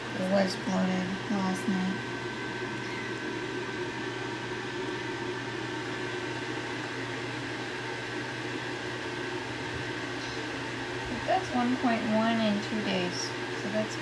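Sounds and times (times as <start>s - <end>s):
appliance mechanical hum: 0.0s - 14.0s.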